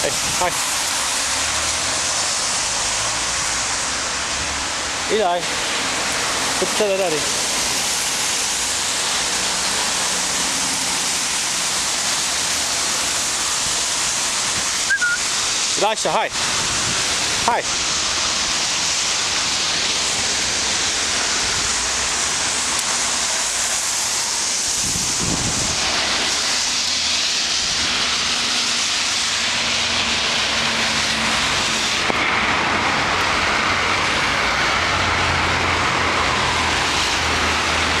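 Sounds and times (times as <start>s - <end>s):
rain: 0.0s - 38.0s
traffic on wet street: 0.0s - 38.0s.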